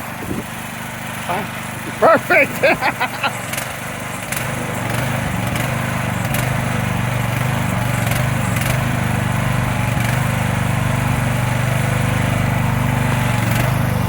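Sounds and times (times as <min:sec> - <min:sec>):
small engine running steadily: 0:00.0 - 0:14.0.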